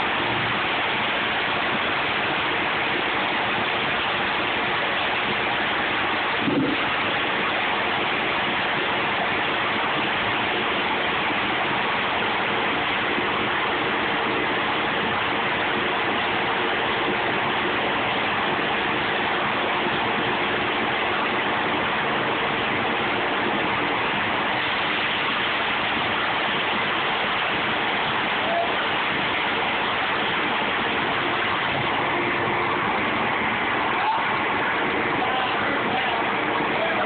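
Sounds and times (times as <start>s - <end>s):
liquid pouring and splashing: 0.0s - 37.0s.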